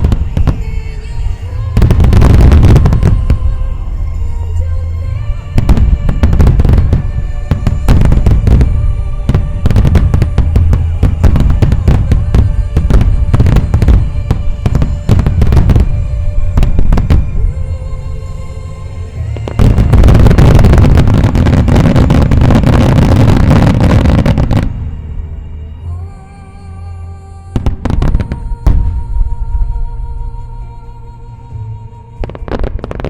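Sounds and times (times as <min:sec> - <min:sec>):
fireworks booming and crackling: 0:00.0 - 0:04.2, 0:05.1 - 0:25.1, 0:27.6 - 0:29.6, 0:32.2 - 0:33.0.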